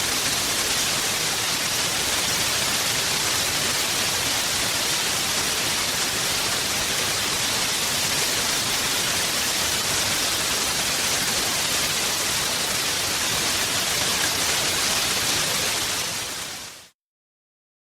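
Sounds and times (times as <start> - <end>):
heavy rain falling: 0.0 - 16.8.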